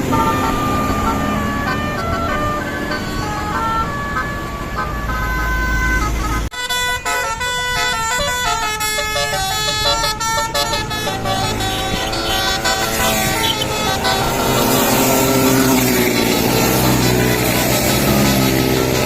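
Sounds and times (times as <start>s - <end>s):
bus engine and road noise: 0.0s - 19.0s
melody horn playing stepped notes: 0.0s - 19.0s.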